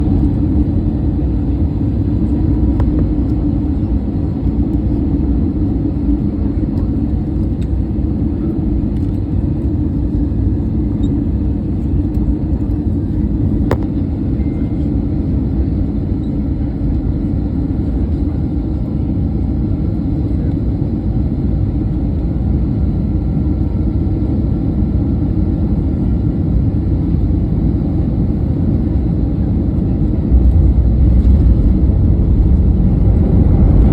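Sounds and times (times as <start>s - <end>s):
jet engines rumbling in cabin: 0.0s - 33.9s.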